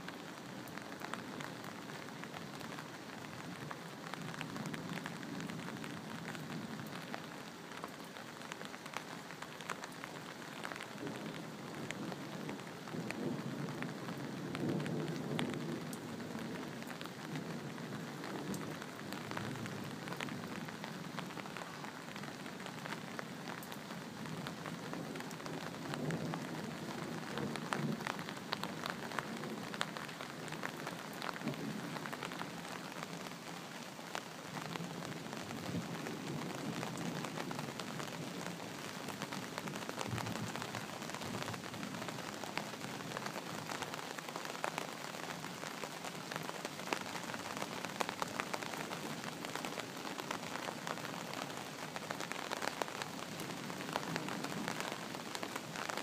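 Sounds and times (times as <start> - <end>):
close raindrop hits ticking: 0.0 - 56.0
steady rain falling: 0.0 - 56.0.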